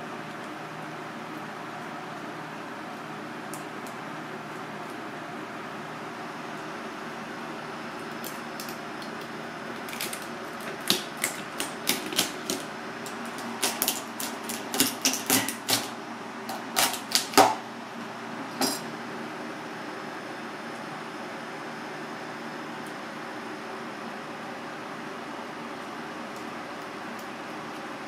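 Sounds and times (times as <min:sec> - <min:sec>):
kitchen hum: 0:00.0 - 0:28.0.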